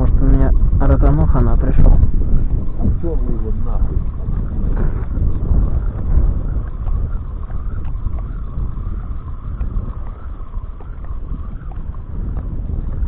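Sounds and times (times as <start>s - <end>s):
faint wavering whine: 0.0s - 13.0s
wind buffeting microphone: 0.0s - 13.0s.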